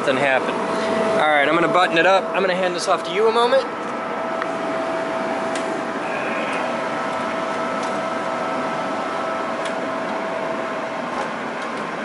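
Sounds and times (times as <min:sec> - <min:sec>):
machine hum and whir: 0:00.0 - 0:12.0.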